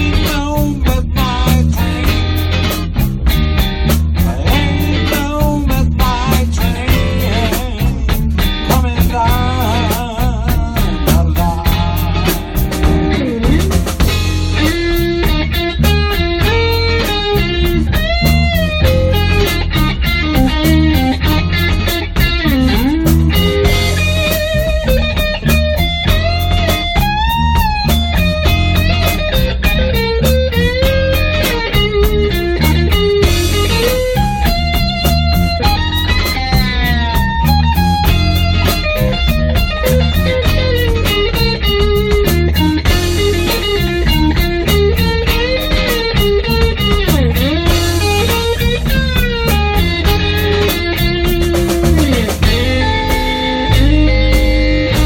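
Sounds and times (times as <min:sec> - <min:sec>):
bass line: 0:00.0 - 0:55.0
electric guitar lead: 0:00.0 - 0:55.0
steady drum beat: 0:00.0 - 0:55.0.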